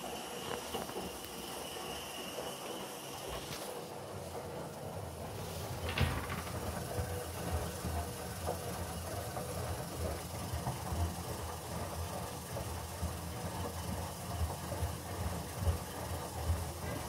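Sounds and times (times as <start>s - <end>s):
washing machine rumbling: 0.0s - 17.0s.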